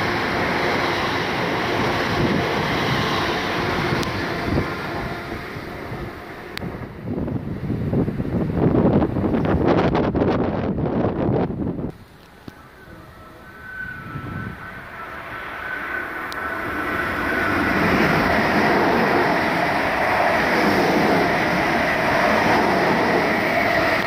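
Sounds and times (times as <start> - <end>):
train passing with steady rumble: 0.0 - 24.0.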